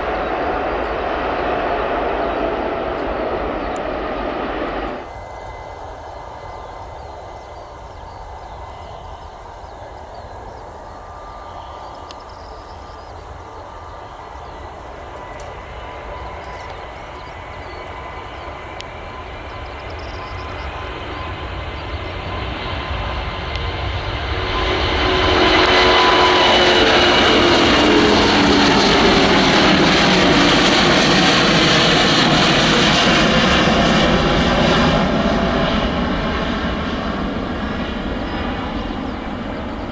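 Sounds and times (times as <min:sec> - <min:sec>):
jet engines at takeoff: 0:00.0 - 0:39.9.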